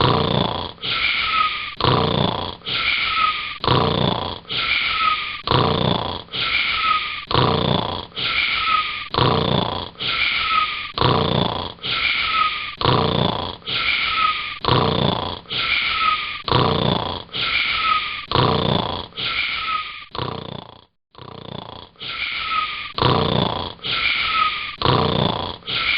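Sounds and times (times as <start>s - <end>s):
whistling snoring: 0.0s - 25.9s.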